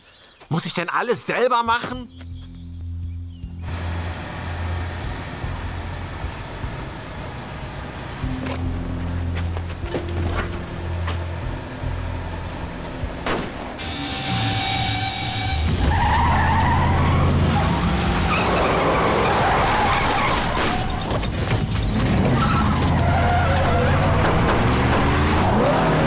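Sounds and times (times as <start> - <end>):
background music: 1.4 - 26.0
car engine running: 2.2 - 26.0.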